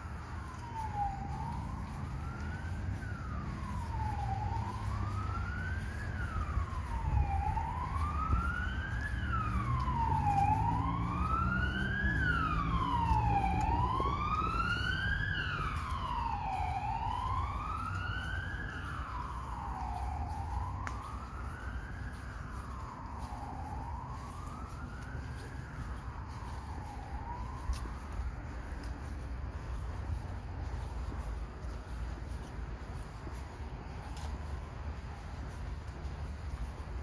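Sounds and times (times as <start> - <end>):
emergency siren wailing: 0.0 - 37.0.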